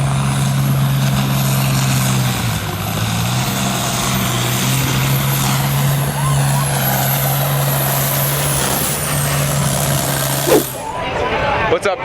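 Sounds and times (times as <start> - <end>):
large engine idling: 0.0 - 11.8.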